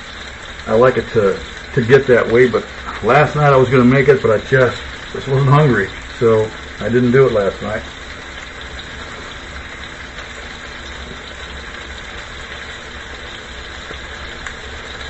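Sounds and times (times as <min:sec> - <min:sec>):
steak sizzling in a skillet: 0:00.0 - 0:15.0.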